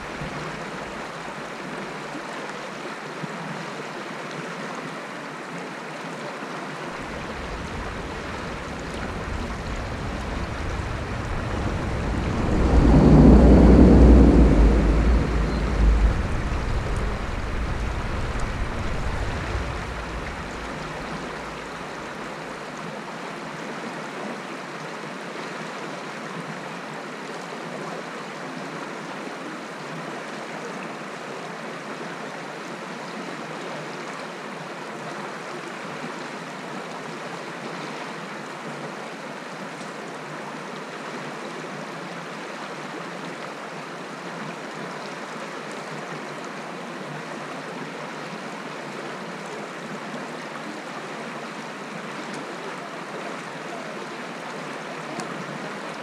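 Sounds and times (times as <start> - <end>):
stream rippling over rocks: 0.0 - 13.8, 14.6 - 56.0.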